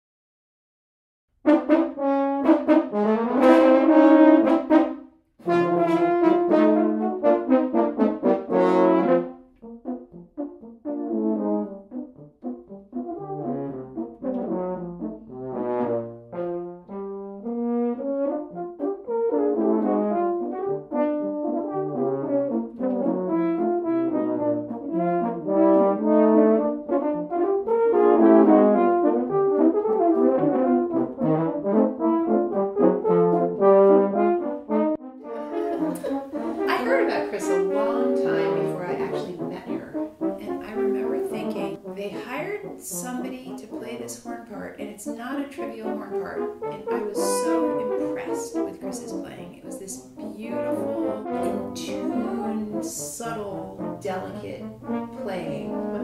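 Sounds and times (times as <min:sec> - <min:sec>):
french horns playing chords: 0:01.4 - 0:56.0.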